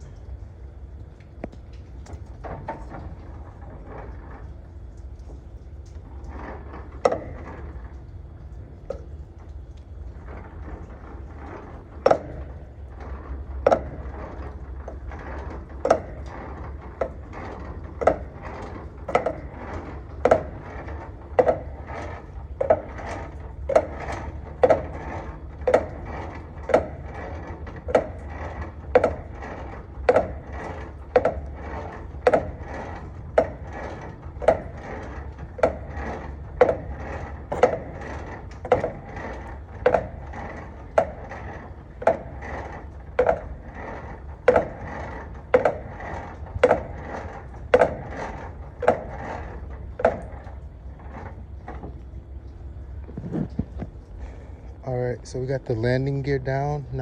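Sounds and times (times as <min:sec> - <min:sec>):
low steady rumble: 0:00.0 - 0:57.0
crank clacking: 0:01.2 - 0:57.0.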